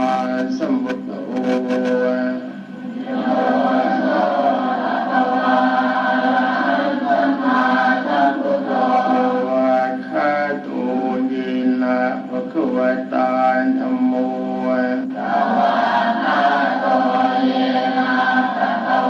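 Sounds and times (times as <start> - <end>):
group chanting in unison: 0.0 - 19.0.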